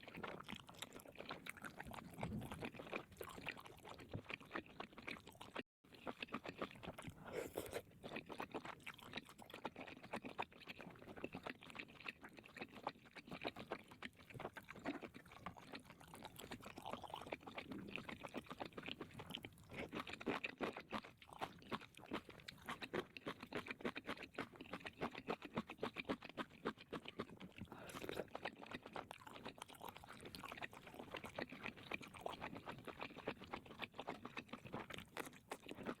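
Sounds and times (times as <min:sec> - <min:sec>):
chewing crunchy food: 0:00.0 - 0:36.0.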